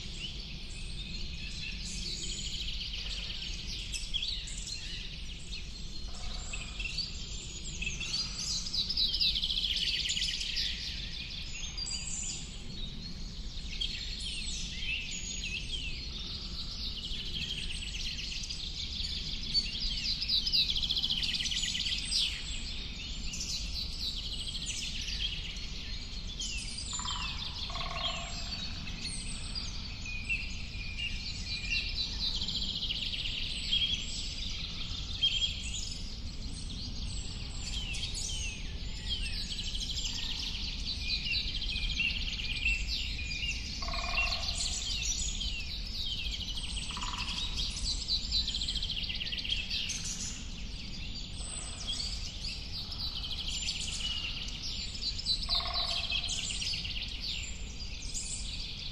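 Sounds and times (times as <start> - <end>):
birds chirping and trilling: 0.2 - 58.9.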